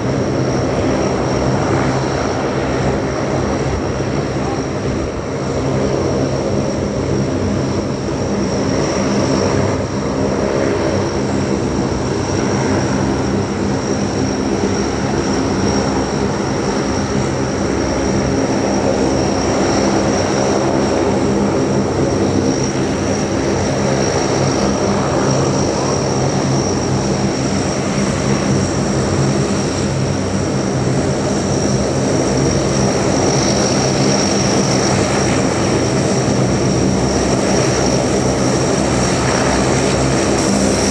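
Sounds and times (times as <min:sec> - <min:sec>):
high turbine whine: 0:00.0 - 0:40.9
turboprop engines drone: 0:00.0 - 0:40.9.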